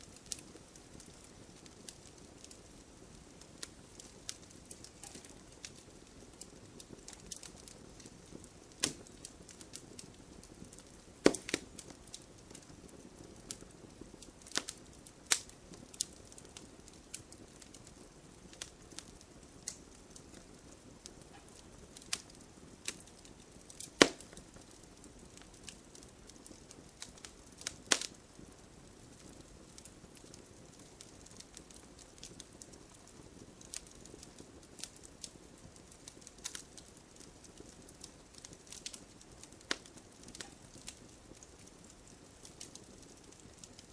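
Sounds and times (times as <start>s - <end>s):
low steady hiss: 0.0s - 43.9s
wood fire crackling and popping: 0.0s - 43.9s.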